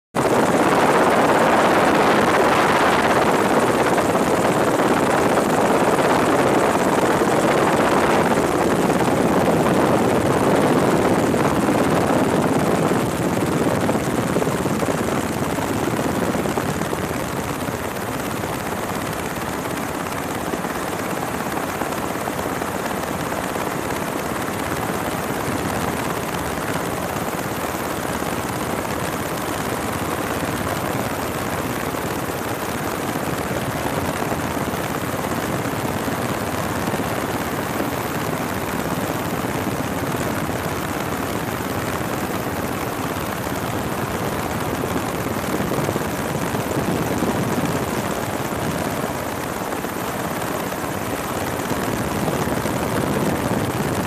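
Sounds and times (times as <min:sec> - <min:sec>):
helicopter rotors and engines: 0:00.2 - 0:54.0.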